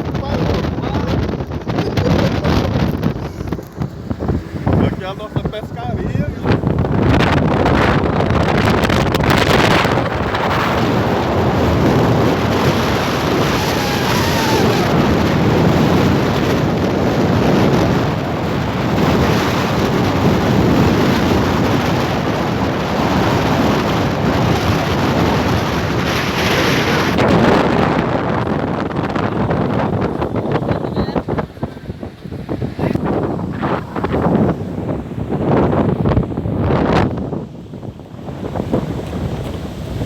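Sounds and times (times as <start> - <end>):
waves washing against shore: 0.0 - 40.0
wind buffeting microphone: 0.0 - 40.0.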